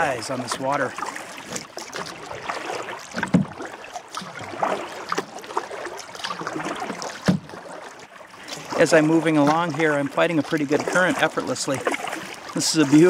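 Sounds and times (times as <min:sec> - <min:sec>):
paddle pulling through water: 0:00.0 - 0:13.0
water splashes and drips: 0:00.0 - 0:13.0.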